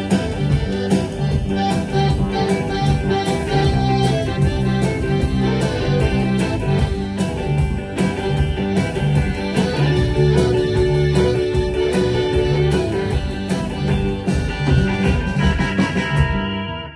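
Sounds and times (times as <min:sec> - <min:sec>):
guitar: 0:00.0 - 0:16.9
live band playing: 0:00.0 - 0:16.9.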